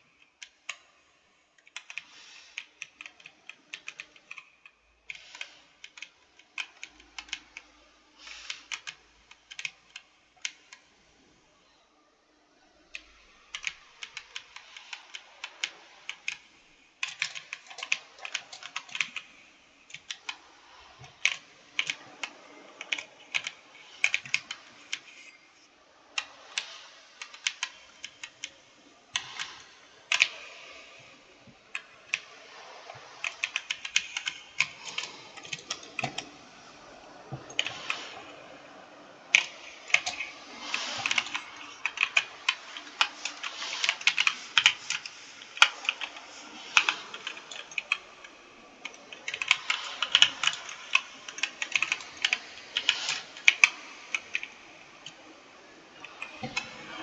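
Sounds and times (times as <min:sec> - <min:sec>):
computer keyboard typing: 0:01.6 - 0:10.9, 0:12.9 - 0:25.3, 0:26.2 - 0:28.6, 0:29.2 - 0:36.4, 0:37.3 - 0:38.3, 0:39.3 - 0:55.2, 0:56.0 - 0:57.0.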